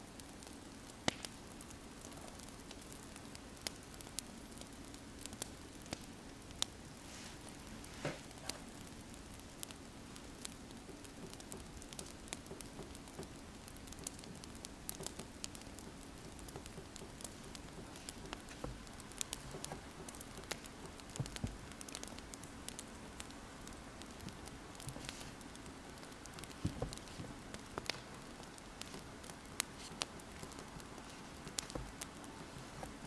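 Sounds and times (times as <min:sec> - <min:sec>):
fire popping: 0:00.0 - 0:33.0
wood fire crackling: 0:00.0 - 0:33.0.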